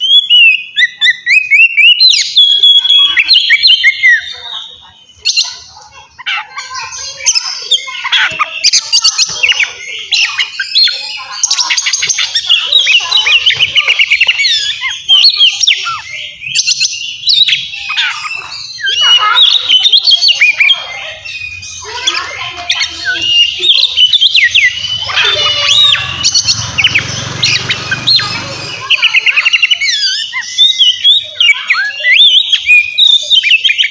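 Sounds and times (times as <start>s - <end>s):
bird singing whistles and chirps: 0.0s - 33.9s.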